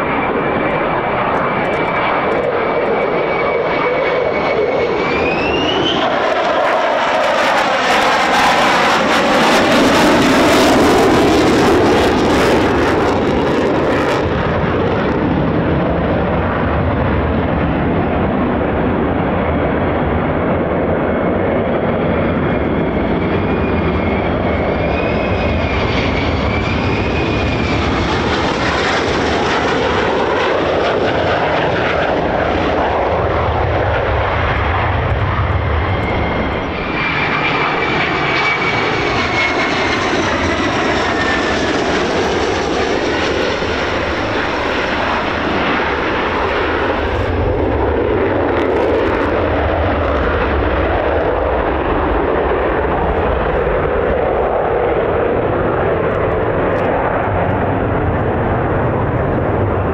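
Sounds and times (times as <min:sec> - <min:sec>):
jet roaring: 0:00.0 - 0:59.9
jet rumble with faint whine: 0:00.0 - 0:59.9.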